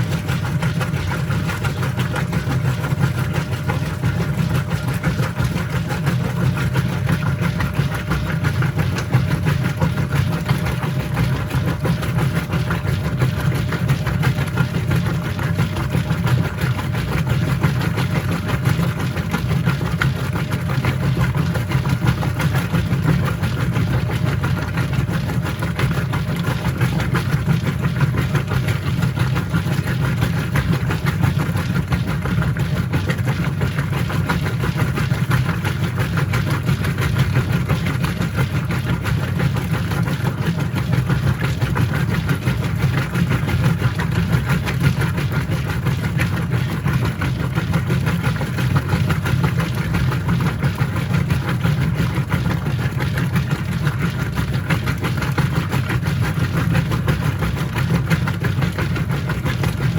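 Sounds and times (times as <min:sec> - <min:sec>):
washing machine motor hum: 0:00.0 - 0:59.9
water and drum sloshing: 0:00.0 - 0:59.9.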